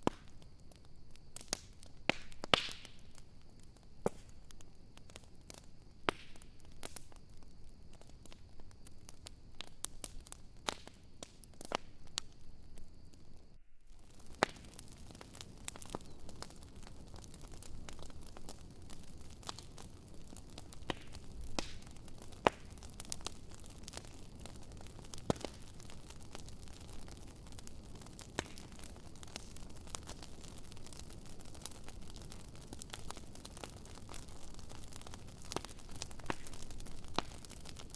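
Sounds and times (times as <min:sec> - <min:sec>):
bonfire crackling and popping: 0:00.0 - 0:37.9.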